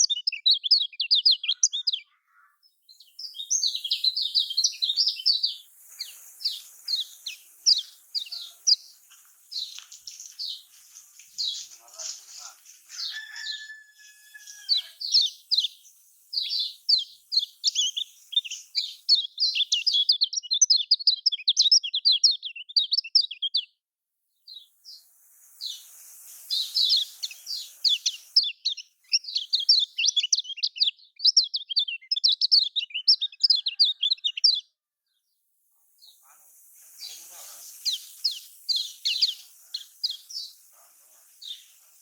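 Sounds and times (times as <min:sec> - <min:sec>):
songbird chattering song: 0:00.0 - 0:23.8, 0:24.4 - 0:42.0.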